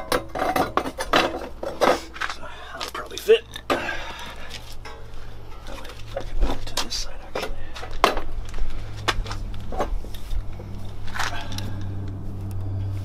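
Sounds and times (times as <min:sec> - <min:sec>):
hand tools clicking and knocking: 0:00.0 - 0:12.2
low steady hum: 0:00.0 - 0:13.0.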